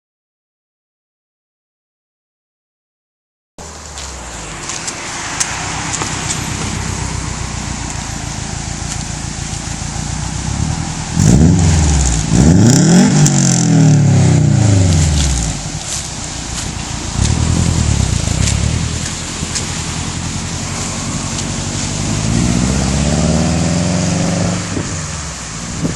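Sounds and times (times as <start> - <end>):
car exhaust revving: 3.6 - 25.9.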